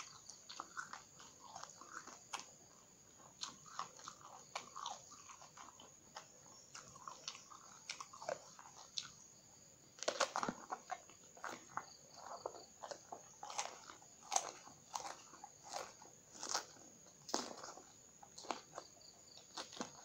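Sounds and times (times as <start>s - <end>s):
crunchy chewing of eggplant: 0.0s - 20.0s.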